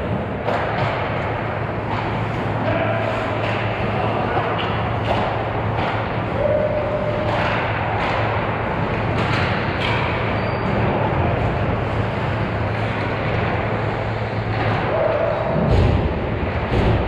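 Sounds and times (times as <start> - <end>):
steady low hum: 0.0 - 17.0
hockey sticks clacking on puck: 0.1 - 11.6, 12.2 - 17.0.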